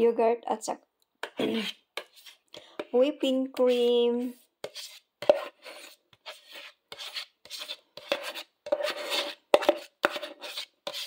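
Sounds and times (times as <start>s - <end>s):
utensil scraping plastic container: 1.2s - 3.0s, 3.6s - 11.0s.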